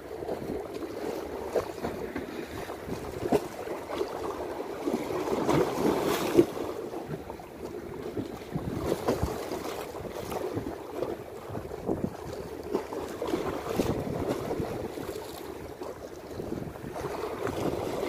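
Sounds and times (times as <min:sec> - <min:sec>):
waves splashing on concrete: 0:00.0 - 0:07.3, 0:08.3 - 0:18.0.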